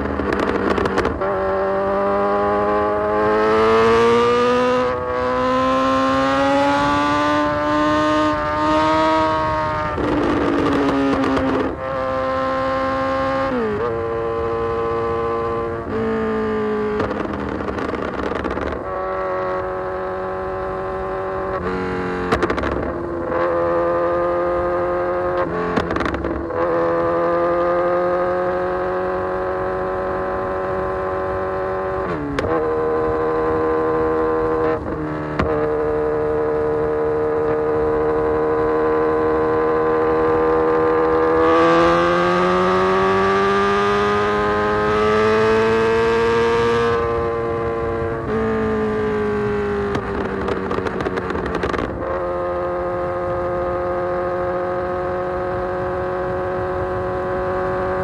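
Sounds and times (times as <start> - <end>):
muffled motorcycle engine revving: 0.0 - 58.0.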